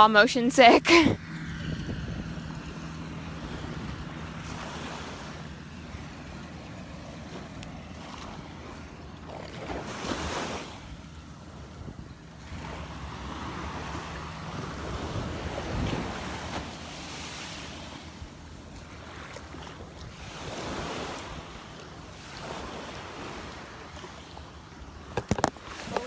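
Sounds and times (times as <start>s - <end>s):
surf washing on beach: 0.3s - 26.0s
wind rumbling on microphone: 0.9s - 24.2s.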